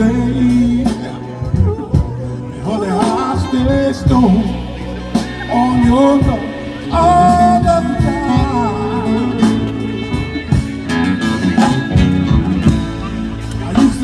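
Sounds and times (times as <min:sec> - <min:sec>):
live band playing soul song: 0:00.0 - 0:14.0
wavering melodic lead line: 0:00.0 - 0:14.0.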